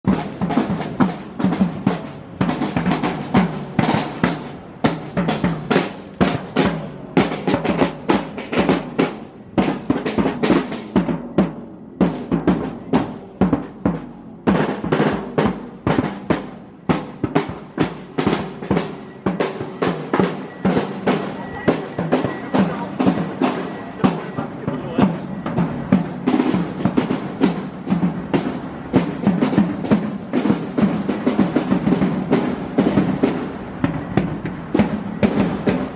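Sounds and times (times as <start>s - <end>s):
marching drum beaten with mallets: 0.0s - 35.9s.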